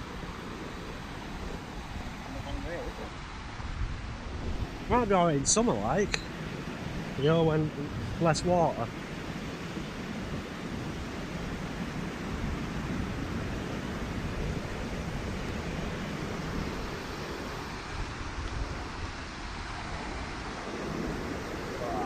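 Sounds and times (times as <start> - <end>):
fast-flowing river rushing: 0.0 - 3.3, 4.6 - 22.0
wind buffeting microphone: 0.0 - 22.0.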